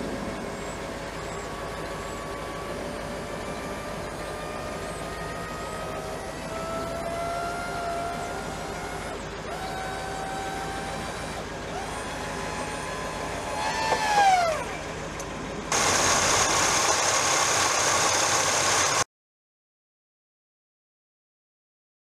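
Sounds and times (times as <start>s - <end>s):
car engine running: 0.0s - 19.0s
convertible top motor whining: 0.0s - 19.1s.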